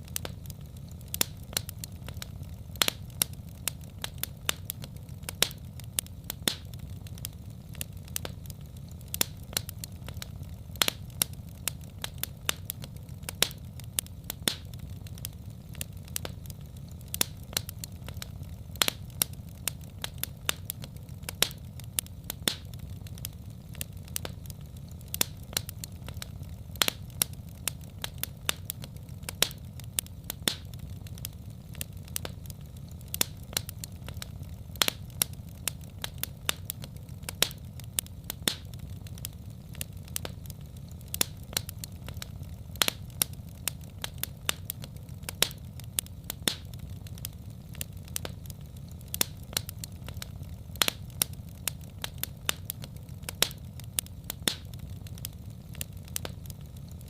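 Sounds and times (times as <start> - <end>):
low fire rumble: 0.0 - 57.0
wood fire crackling and popping: 0.0 - 57.0.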